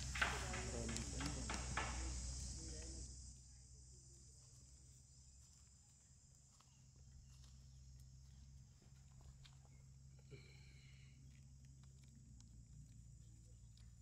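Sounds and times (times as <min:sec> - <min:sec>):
faint insect hiss: 0:00.0 - 0:11.2.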